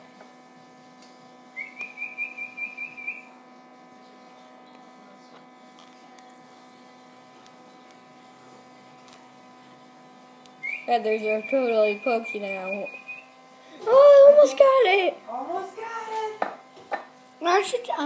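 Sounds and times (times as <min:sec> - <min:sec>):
incubator electric hum: 0:00.0 - 0:18.0.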